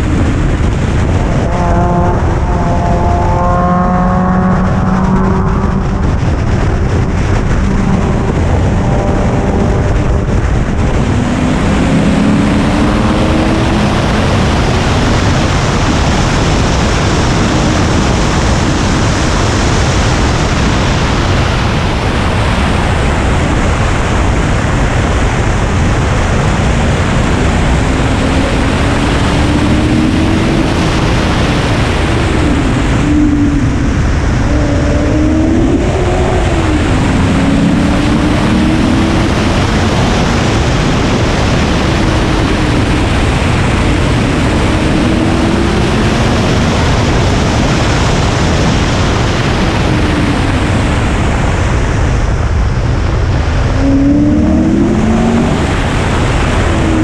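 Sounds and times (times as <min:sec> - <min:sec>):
car engine revving: 0:00.0 - 0:57.0
rushing wind noise: 0:00.0 - 0:57.0.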